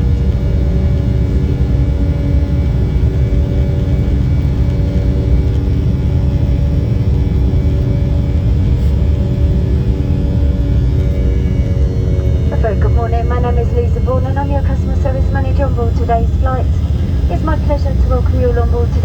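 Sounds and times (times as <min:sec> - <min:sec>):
airliner cabin drone: 0:00.0 - 0:19.0
jet engine humming tones: 0:00.0 - 0:19.0.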